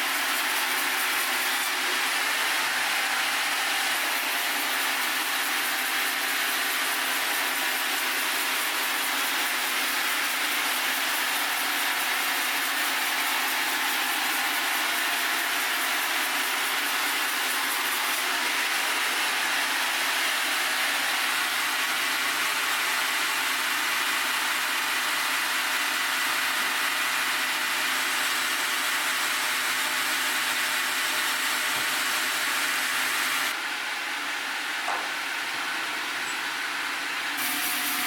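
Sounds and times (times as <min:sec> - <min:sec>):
sawmill blade cutting log: 0:00.0 - 0:33.6, 0:37.3 - 0:38.0.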